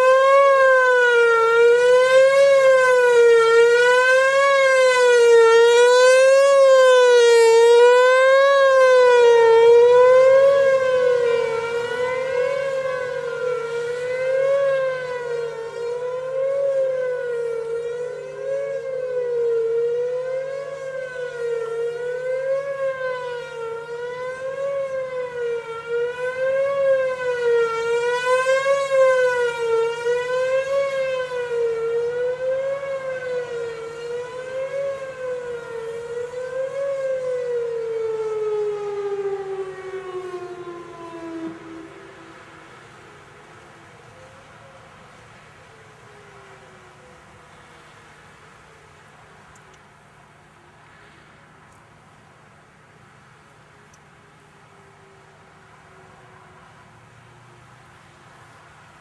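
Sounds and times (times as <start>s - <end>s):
wavering outdoor warning siren: 0.0s - 59.0s.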